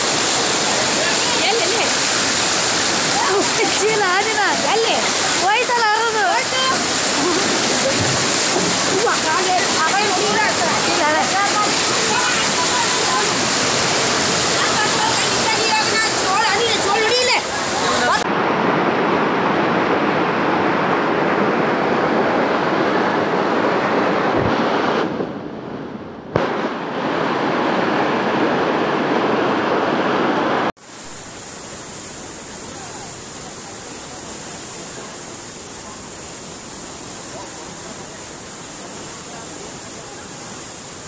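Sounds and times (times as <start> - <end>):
floodwater roaring: 0.0 - 41.0.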